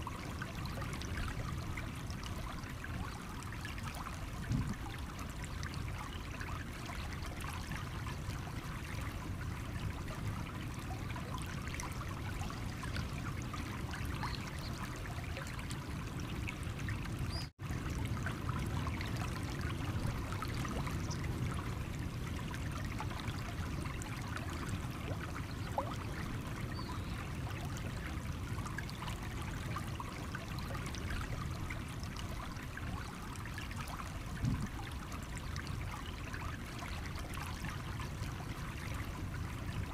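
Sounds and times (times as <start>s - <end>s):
small water splashes: 0.0s - 39.9s
stream babbling over stones: 0.1s - 39.9s.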